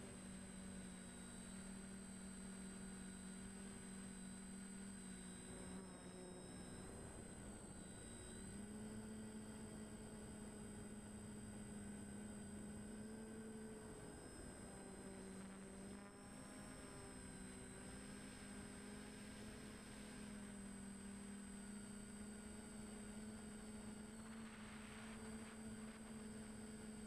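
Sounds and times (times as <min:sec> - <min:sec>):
quadcopter propellers humming: 0:00.0 - 0:27.0
thin high whine: 0:00.0 - 0:27.0.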